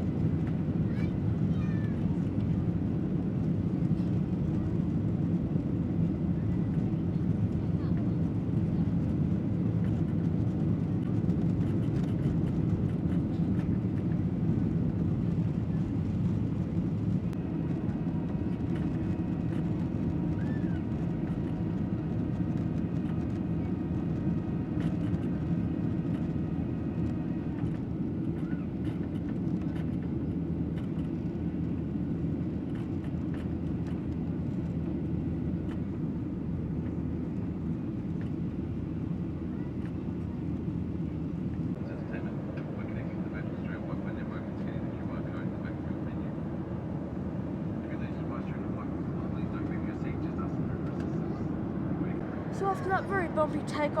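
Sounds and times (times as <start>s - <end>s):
aircraft engine rumble: 0.0s - 54.0s.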